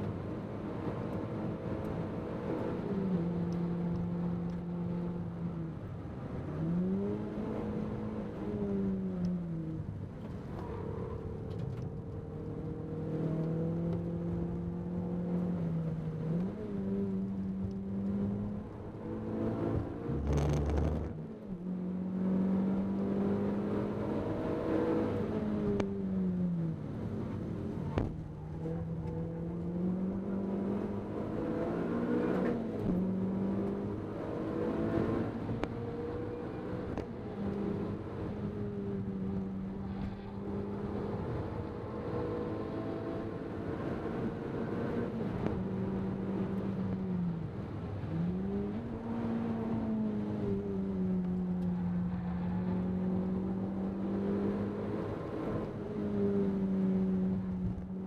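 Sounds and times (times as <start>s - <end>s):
tyre and road noise: 0.0s - 23.5s, 24.3s - 58.0s.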